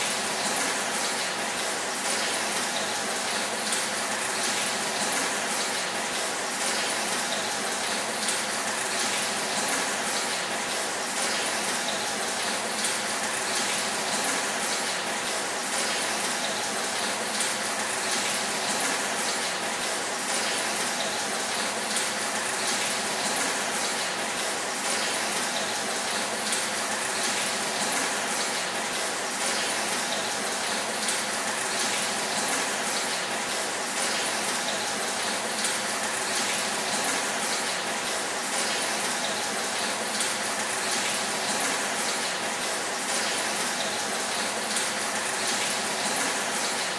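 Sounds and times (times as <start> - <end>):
water pattering on metal roof: 0.0 - 46.9.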